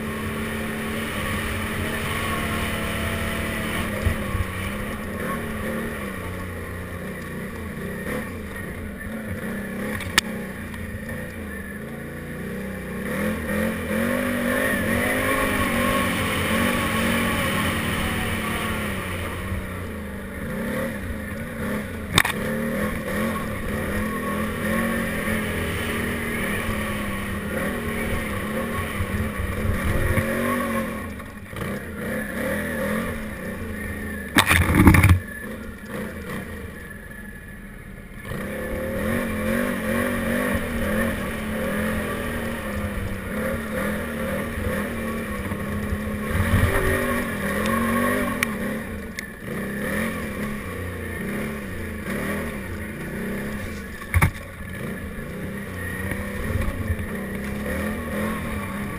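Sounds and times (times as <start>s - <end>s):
atv engine revving: 0.0s - 58.9s.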